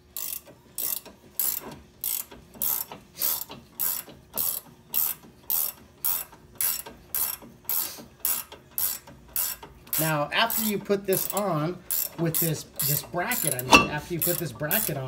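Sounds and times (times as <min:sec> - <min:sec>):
ratcheting wrench clicking: 0:00.2 - 0:15.0.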